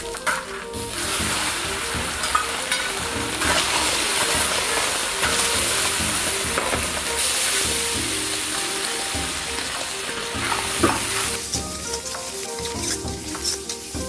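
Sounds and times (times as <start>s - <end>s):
liver sizzling in hot oil: 0.1s - 14.0s
metal spatula scraping a pan: 0.2s - 14.0s.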